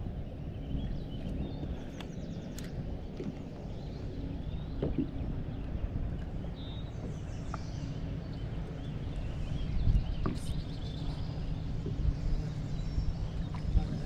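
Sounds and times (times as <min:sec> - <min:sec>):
faint birds chirping: 0:00.0 - 0:14.0
wind rumble on microphone: 0:00.0 - 0:14.0.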